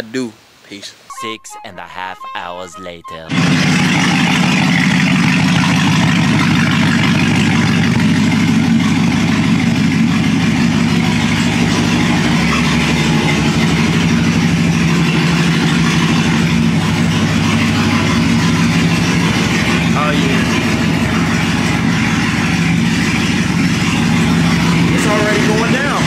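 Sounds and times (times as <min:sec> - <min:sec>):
car engine idling: 0:03.3 - 0:26.0.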